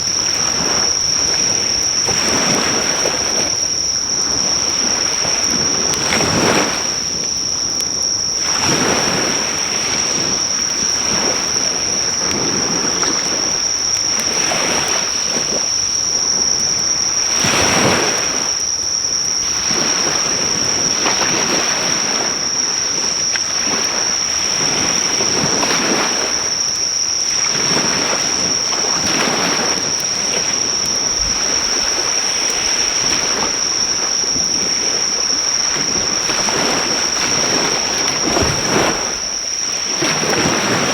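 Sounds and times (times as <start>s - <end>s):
high-pitched insect drone: 0.0s - 40.9s
waves washing onto beach: 0.0s - 40.9s.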